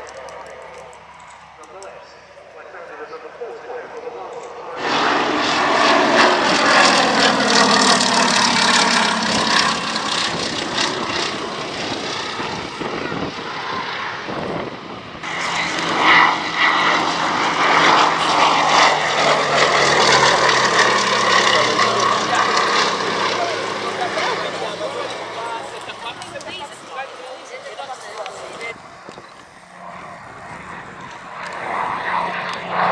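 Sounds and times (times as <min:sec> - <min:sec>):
propeller aircraft flying past: 0:00.0 - 0:32.9.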